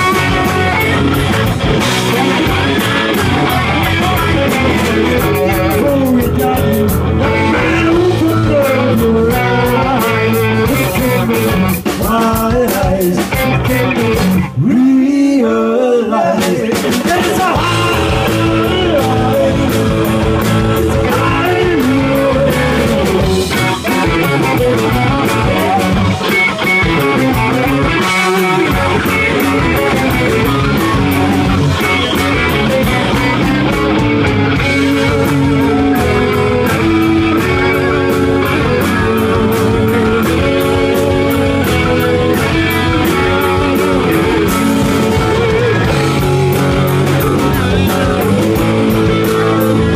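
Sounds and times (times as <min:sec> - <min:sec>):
drum kit: 0:00.0 - 0:14.8, 0:16.2 - 0:49.9
electric guitars: 0:00.0 - 0:49.9.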